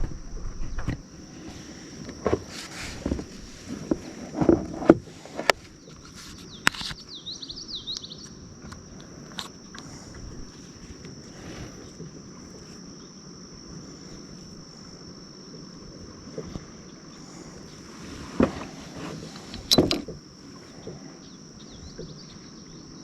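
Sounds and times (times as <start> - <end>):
high-pitched insect drone: 0.0 - 23.0
low outdoor hiss: 0.0 - 23.0.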